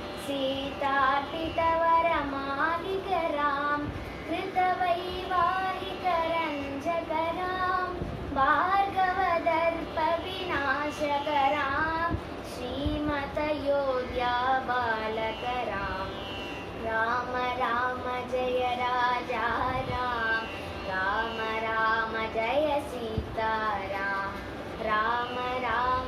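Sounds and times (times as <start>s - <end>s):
girl singing unaccompanied: 0.0s - 26.0s.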